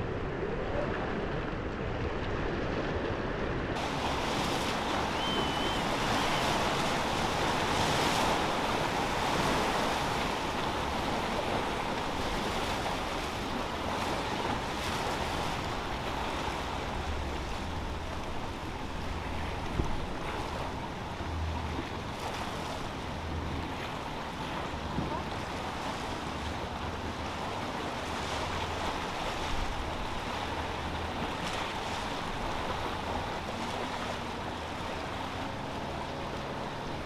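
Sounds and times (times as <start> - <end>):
wind on microphone: 0.0 - 37.0
ocean surf rushing: 3.2 - 37.0.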